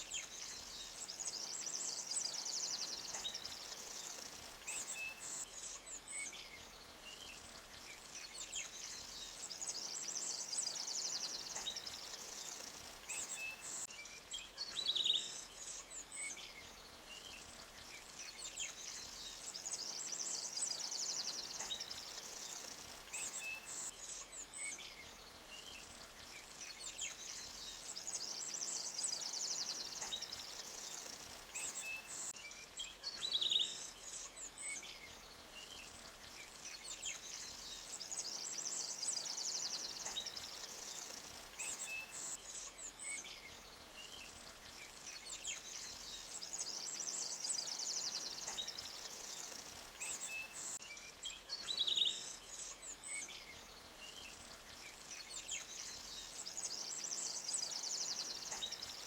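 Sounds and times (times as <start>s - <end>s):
faint background hiss: 0.0s - 59.0s
small birds chirping and trilling: 0.0s - 59.0s.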